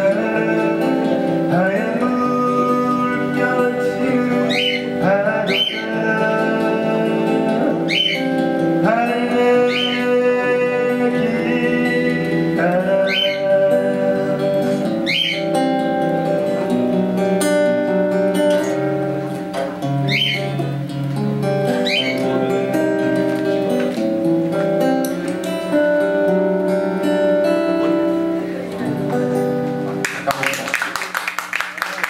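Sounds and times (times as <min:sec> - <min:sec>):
acoustic guitar playing: 0:00.0 - 0:30.6.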